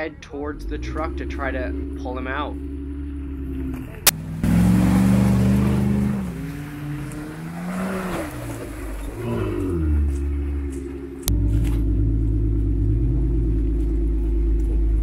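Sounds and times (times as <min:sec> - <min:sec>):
off-road vehicle engine revving: 0:00.0 - 0:15.0
pickup engine idling: 0:00.0 - 0:15.0.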